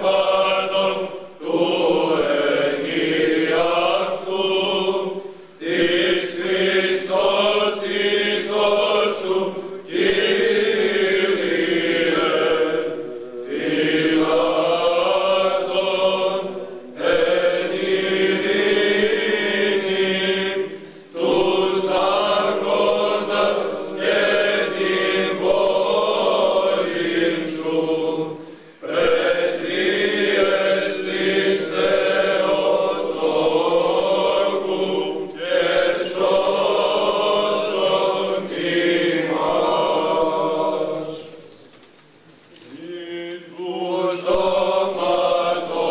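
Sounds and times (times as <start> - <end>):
male choir chanting: 0.0 - 41.5, 42.6 - 45.9.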